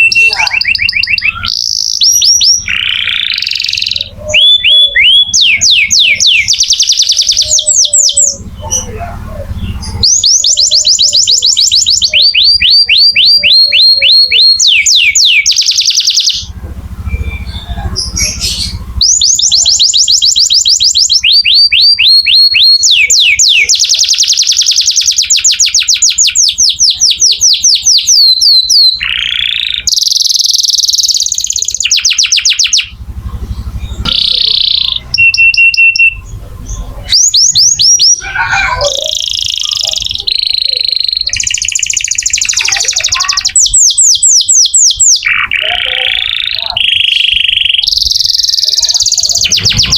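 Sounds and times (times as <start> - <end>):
canary singing rapid trills: 0.0 - 49.9.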